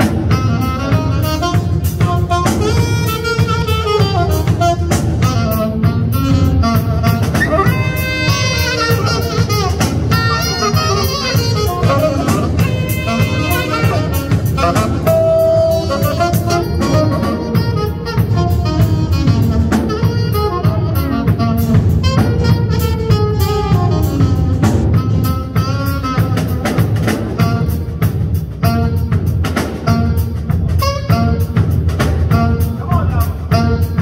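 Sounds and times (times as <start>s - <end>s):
drum kit: 0.0s - 34.0s
saxophones playing melody: 0.0s - 34.0s.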